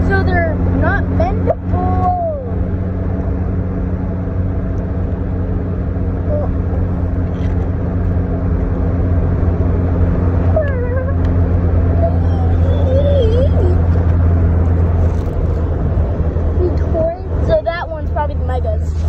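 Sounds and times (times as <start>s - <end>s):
car engine hum with road noise: 0.0s - 19.0s.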